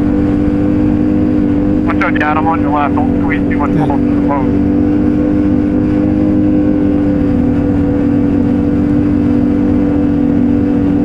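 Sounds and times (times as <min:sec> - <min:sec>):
rumble of track: 0:00.0 - 0:11.0.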